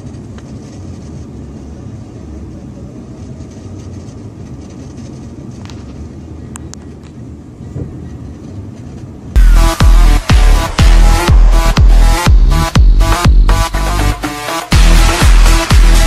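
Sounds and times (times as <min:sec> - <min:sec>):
truck engine low rumble: 0:00.0 - 0:14.2.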